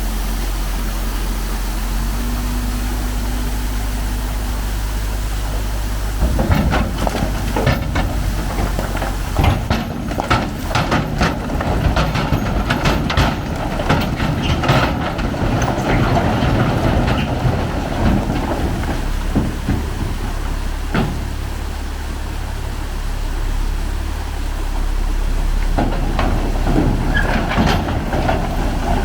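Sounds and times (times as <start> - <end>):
boulders rumbling and clattering: 0.0 - 29.0
truck engine running: 0.0 - 29.0.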